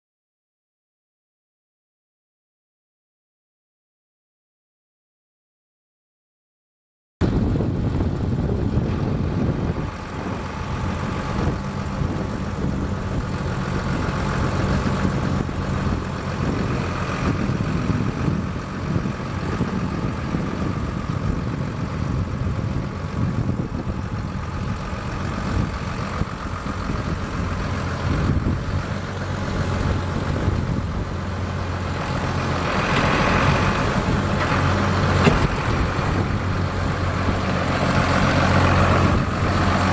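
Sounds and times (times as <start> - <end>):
tractor diesel engine running: 7.2 - 39.9.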